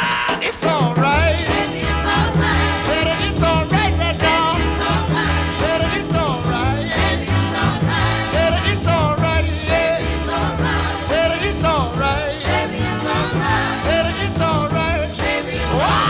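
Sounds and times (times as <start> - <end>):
rhythm and blues band music: 0.0 - 16.0.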